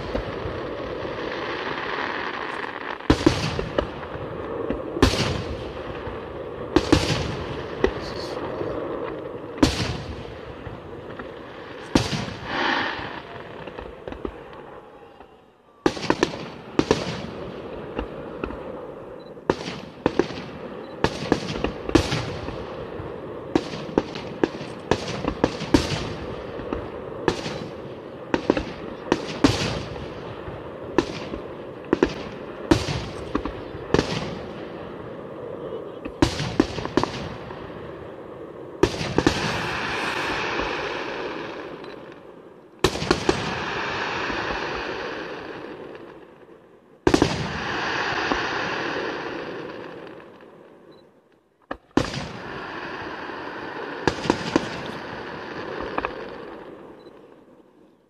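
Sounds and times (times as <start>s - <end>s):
firework bangs: 0.0s - 50.5s, 51.6s - 57.0s
rushing hiss of fireworks: 0.0s - 50.5s, 51.7s - 57.0s.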